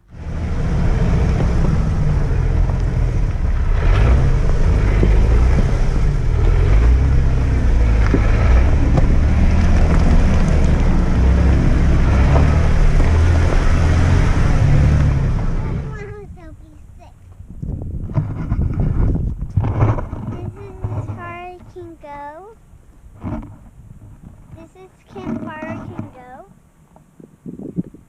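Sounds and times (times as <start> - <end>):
car engine low drone: 0.0 - 28.0
knocks and clicks over rough ground: 1.2 - 16.2, 17.1 - 22.2, 23.2 - 28.0.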